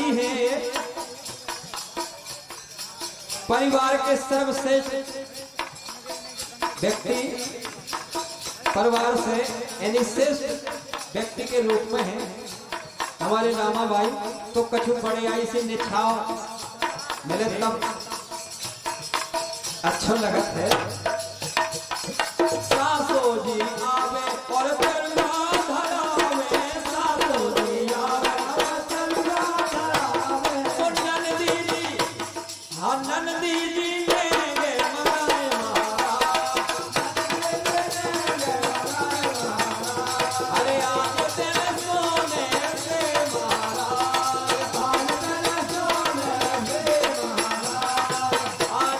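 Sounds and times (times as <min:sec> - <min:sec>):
dholak drum beat: 0:00.0 - 0:48.9
jingling rattle percussion: 0:00.0 - 0:48.9.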